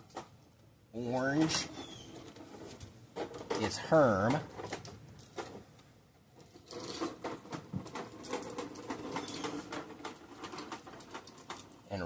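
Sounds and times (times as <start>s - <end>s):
wire connectors clicking and scratching: 1.2s - 12.0s.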